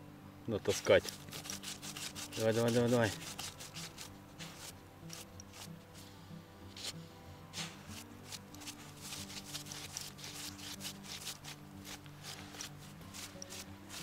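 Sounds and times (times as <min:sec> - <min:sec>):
dog scratching in sandy soil: 0:00.6 - 0:06.1, 0:06.7 - 0:14.0.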